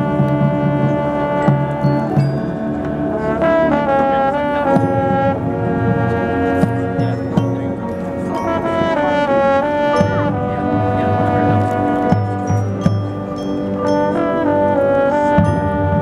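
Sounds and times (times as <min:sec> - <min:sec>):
brass sustained chords: 0:00.0 - 0:16.0.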